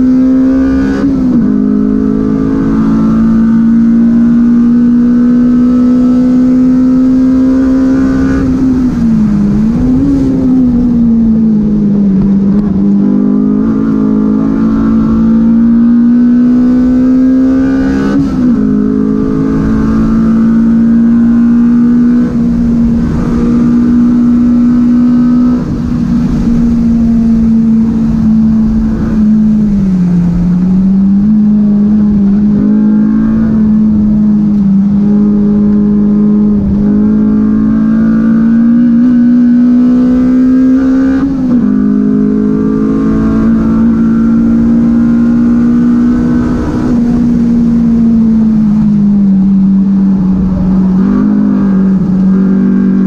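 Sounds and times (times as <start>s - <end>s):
race car engine at high revs: 0.0s - 53.0s
road noise: 0.0s - 53.0s.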